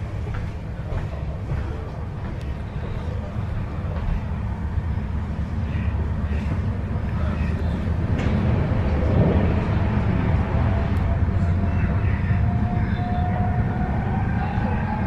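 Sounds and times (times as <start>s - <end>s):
electric train rumble and rattle: 0.0s - 15.0s
passing train rushing: 0.0s - 15.0s.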